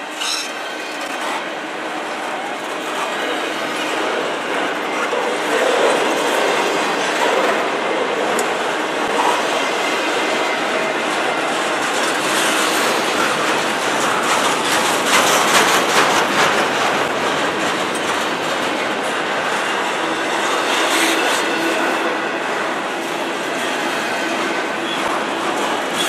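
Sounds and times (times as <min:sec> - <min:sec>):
clickety-clack over rail joints: 0:00.0 - 0:26.0
steel wheels on rail: 0:00.0 - 0:26.0.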